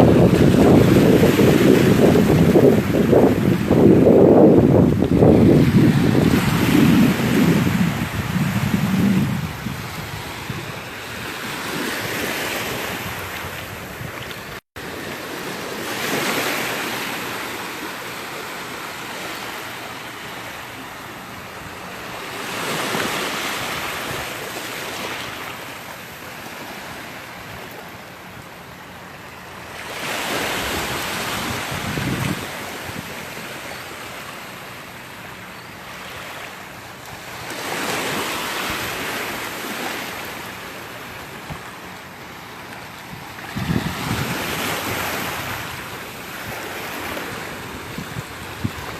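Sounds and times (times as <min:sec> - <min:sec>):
small waves breaking on beach: 0:00.0 - 0:48.9.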